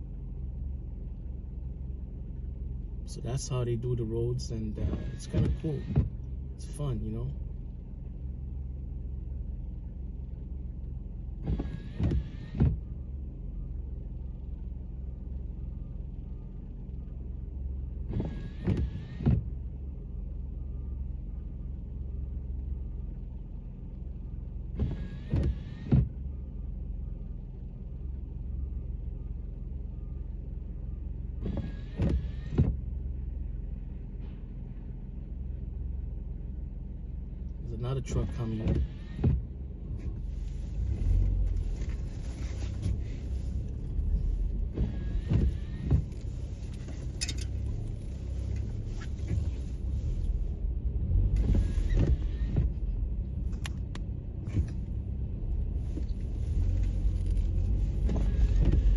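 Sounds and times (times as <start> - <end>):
car engine idling: 0.0 - 58.9
windshield wiper motor whine: 4.4 - 58.9.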